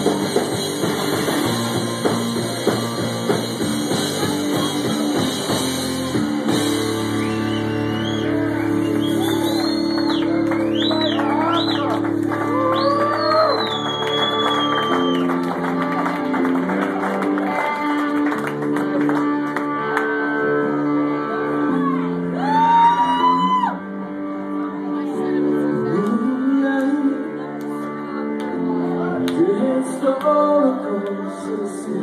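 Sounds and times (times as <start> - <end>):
blues-rock band playing: 0.0 - 32.0.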